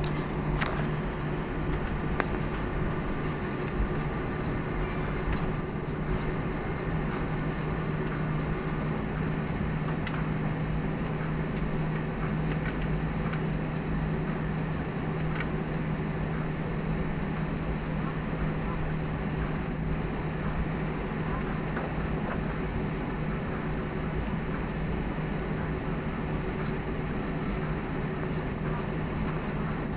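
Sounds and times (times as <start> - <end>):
cabin ventilation: 0.0 - 29.9
jet engines idling: 0.0 - 29.9.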